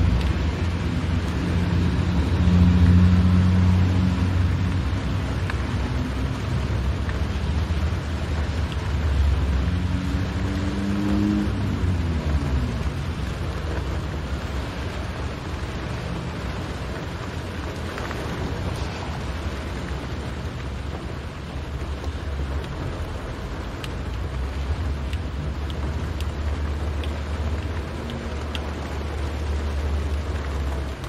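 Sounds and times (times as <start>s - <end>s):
car engine and tyres on wet road: 0.0s - 31.0s
rain on windscreen: 0.0s - 31.0s.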